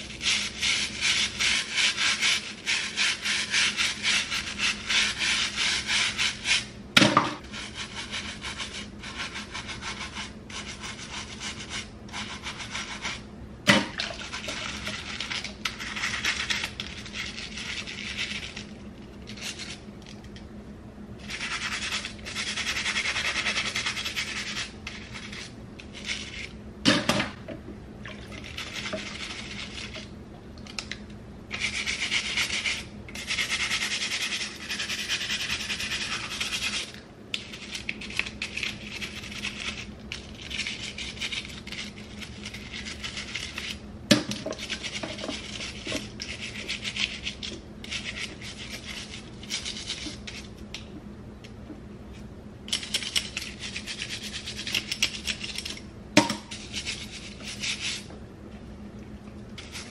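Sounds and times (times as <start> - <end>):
brush scrubbing plastic comb: 0.0 - 6.7, 7.4 - 13.2, 14.1 - 20.4, 21.2 - 26.5, 28.2 - 30.1, 30.7 - 43.8, 44.5 - 50.5, 52.7 - 55.8, 56.4 - 58.1, 59.6 - 59.9
steady low hum: 0.0 - 59.9.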